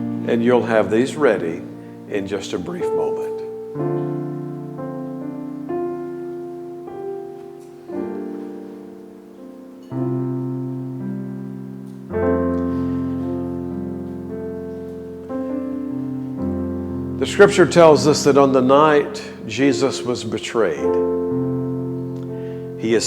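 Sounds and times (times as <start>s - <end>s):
soft piano chords: 0.0s - 23.0s.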